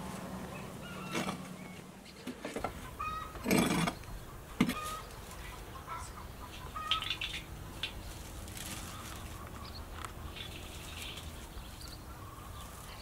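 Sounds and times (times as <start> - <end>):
chickens clucking: 0.5 - 13.0.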